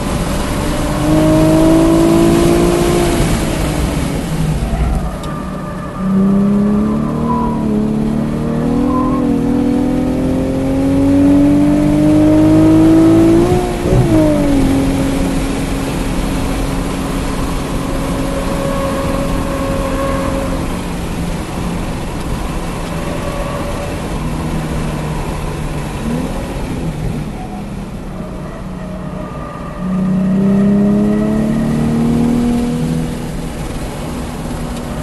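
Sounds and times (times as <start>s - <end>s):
car engine accelerating: 0.0s - 35.0s
road and tyre noise: 0.0s - 35.0s.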